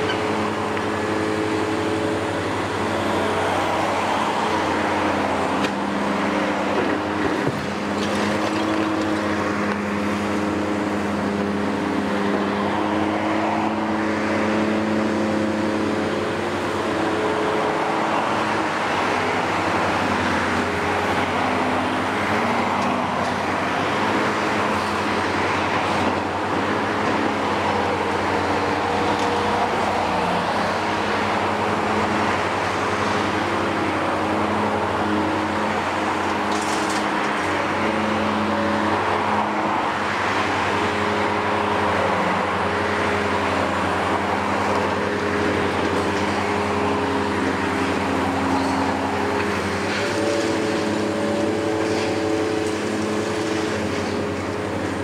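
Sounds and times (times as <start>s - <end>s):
excavator diesel engines and hydraulics: 0.0s - 55.0s.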